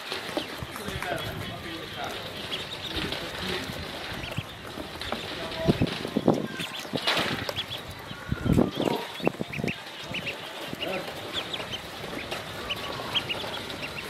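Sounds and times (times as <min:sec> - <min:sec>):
ducklings peeping: 0:00.0 - 0:14.0
low knocks and rustles: 0:00.0 - 0:14.0.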